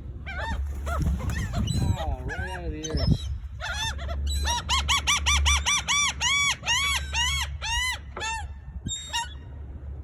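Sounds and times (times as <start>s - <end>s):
gull cries: 0.2s - 9.5s.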